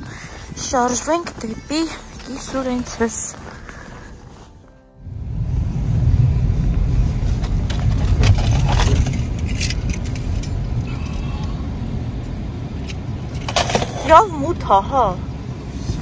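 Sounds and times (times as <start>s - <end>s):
car rumble on snow: 0.5s - 16.0s.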